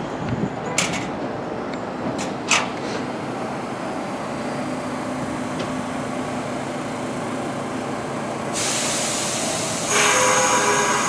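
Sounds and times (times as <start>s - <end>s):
subway train equipment hum: 0.0s - 11.0s.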